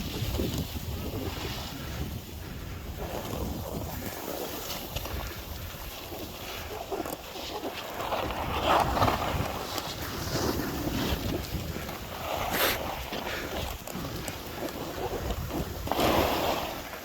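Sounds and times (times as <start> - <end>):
wind buffeting microphone: 0.0 - 6.9, 8.0 - 17.0
skis hissing over snow: 0.0 - 17.0.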